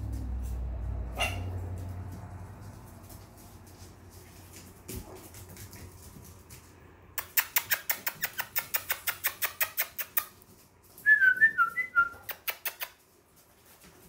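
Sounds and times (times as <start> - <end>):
puppy toenails clicking on floor: 0.0 - 14.0.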